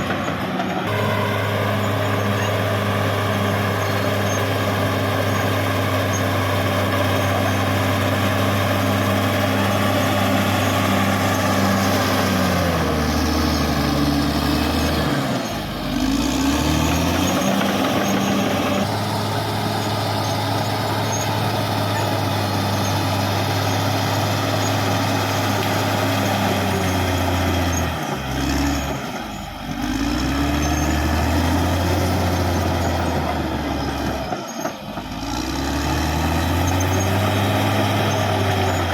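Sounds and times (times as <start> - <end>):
bulldozer diesel engine working: 0.0 - 38.9.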